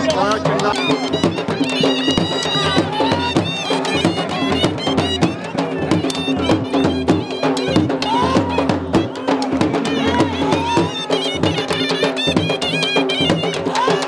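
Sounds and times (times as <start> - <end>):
fast drumming: 0.0 - 14.0.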